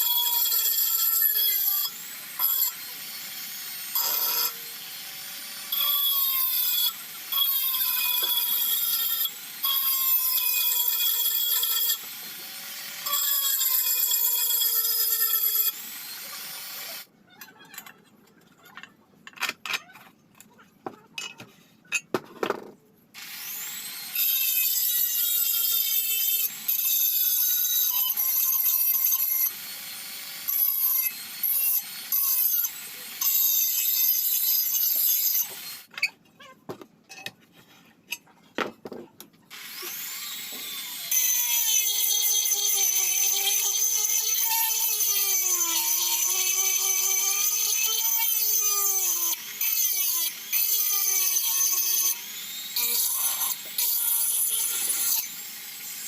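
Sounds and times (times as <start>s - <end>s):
power tool whining on metal: 0.0s - 17.1s, 23.2s - 35.9s, 39.5s - 56.0s.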